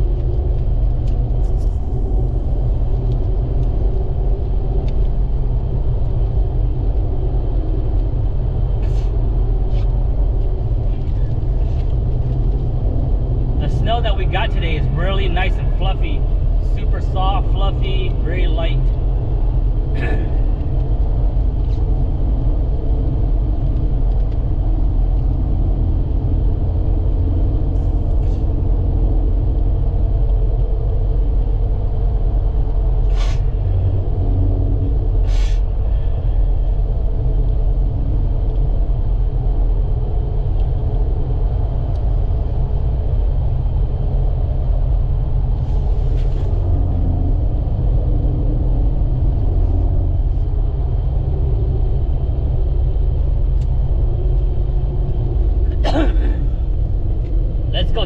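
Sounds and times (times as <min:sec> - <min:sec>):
vehicle driving from inside cabin: 0:00.0 - 0:58.0.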